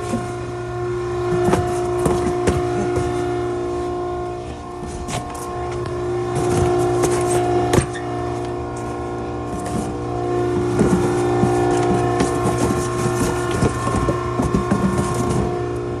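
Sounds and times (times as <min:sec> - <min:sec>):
hydraulic power unit whining: 0:00.0 - 0:16.0.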